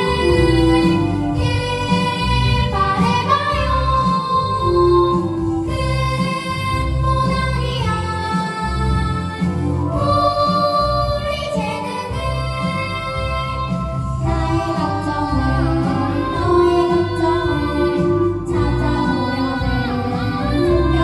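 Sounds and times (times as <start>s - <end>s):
children singing into microphones: 0.0s - 21.0s
instrumental accompaniment with bass line: 0.0s - 21.0s.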